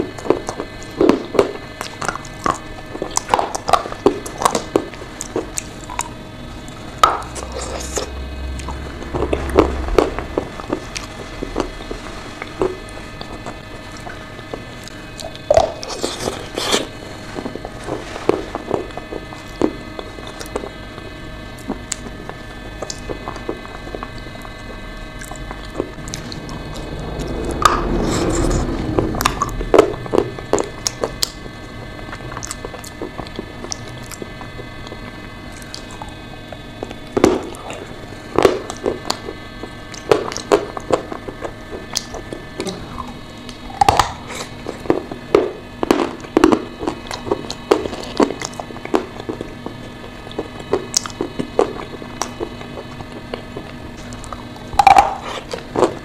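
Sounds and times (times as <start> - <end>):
wet chewing and mouth sounds: 0.0 - 56.0.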